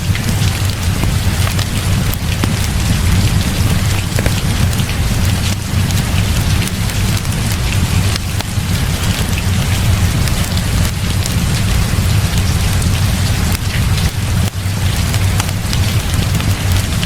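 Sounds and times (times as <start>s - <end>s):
heavy rain falling: 0.0s - 17.0s
low rumble: 0.0s - 17.0s.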